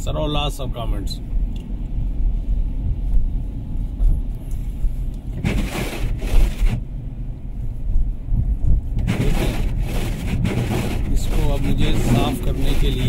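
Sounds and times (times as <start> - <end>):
low rumble inside car cabin: 0.0 - 13.0.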